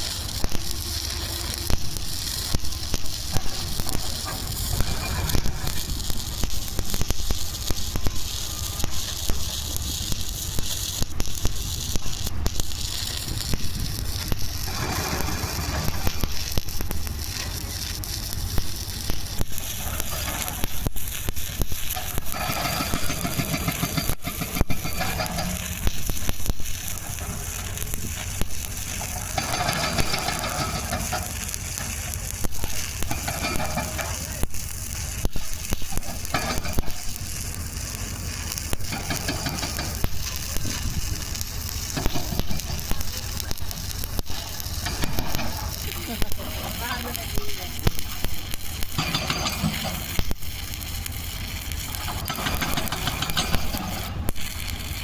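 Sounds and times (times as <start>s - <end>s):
arc welding crackle: 0.0s - 55.0s.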